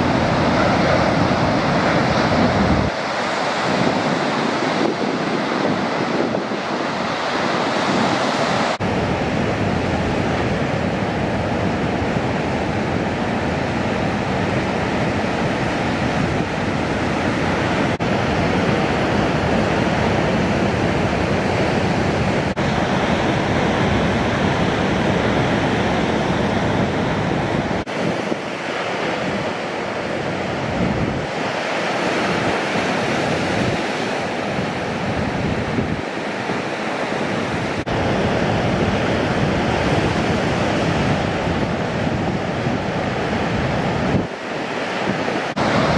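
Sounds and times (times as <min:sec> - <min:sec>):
waves breaking: 0:00.0 - 0:45.9
wind buffeting microphone: 0:00.0 - 0:45.9.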